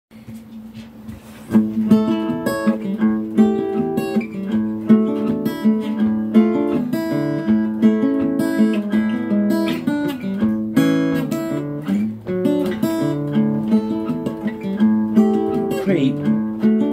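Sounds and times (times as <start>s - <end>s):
acoustic guitar picking: 0.2s - 16.9s.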